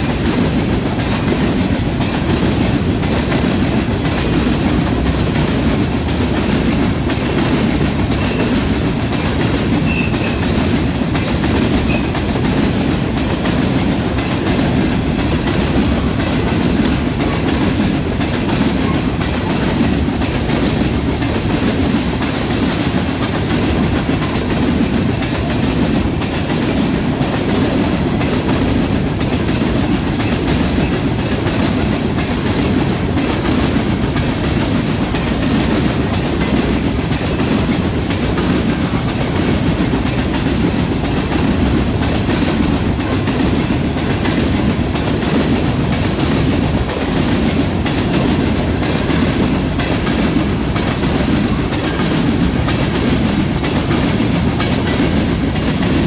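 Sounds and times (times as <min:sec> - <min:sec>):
steel wheels rumbling on rail: 0:00.0 - 0:56.0
wheels clicking over rail joints: 0:00.0 - 0:56.0.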